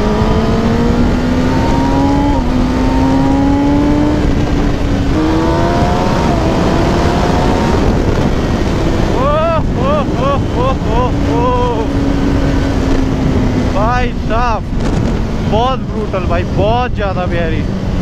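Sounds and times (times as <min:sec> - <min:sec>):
motorcycle engine accelerating: 0:00.0 - 0:18.0
rushing wind noise: 0:00.0 - 0:18.0.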